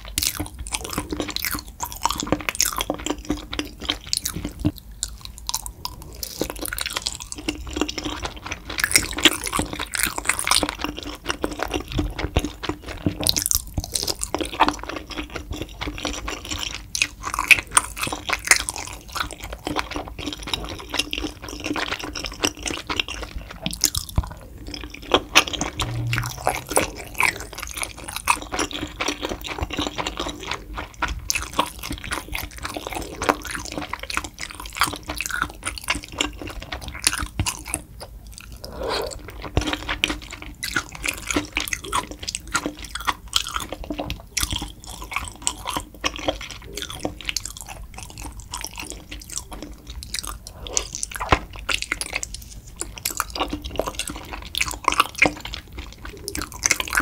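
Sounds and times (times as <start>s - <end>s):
wet sticky chewing: 0.1s - 57.0s.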